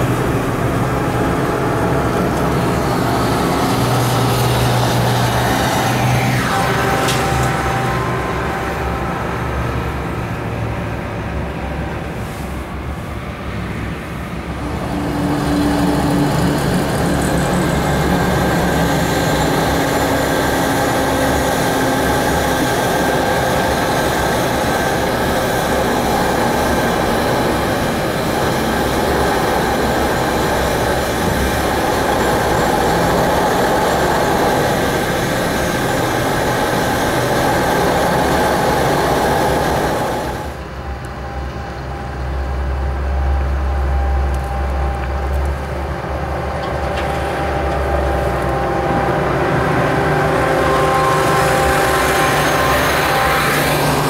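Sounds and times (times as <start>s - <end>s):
snow blower rushing noise: 0.0s - 42.3s, 44.4s - 54.0s.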